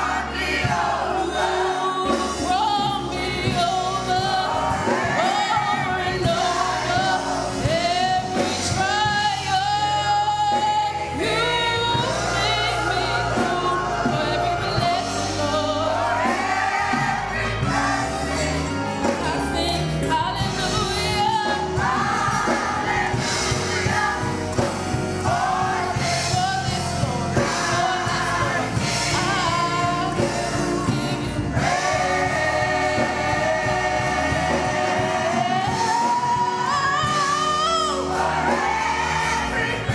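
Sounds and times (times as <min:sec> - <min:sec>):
gospel singing with instruments: 0:00.0 - 0:39.9.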